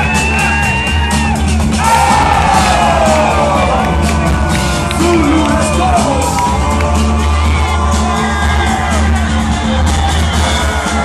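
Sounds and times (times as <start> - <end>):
crowd whooping and yelling: 0.0 - 11.0
loud dance music with bass beat: 0.0 - 11.0.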